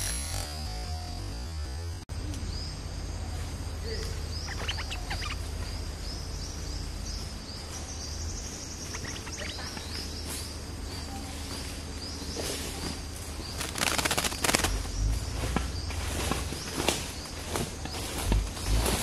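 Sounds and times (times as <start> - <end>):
low outdoor hum: 0.0 - 19.0
bird calls: 2.3 - 19.0.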